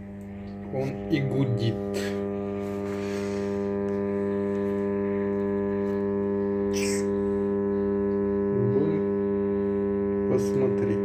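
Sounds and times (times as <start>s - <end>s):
radio speaker humming: 0.0s - 11.0s.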